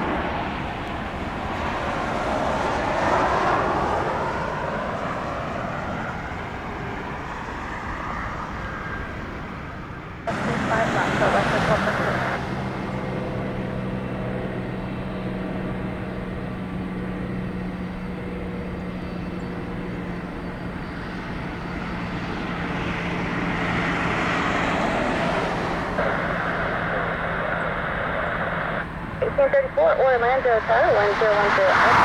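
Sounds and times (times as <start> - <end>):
jet engine noise: 0.0 - 32.0.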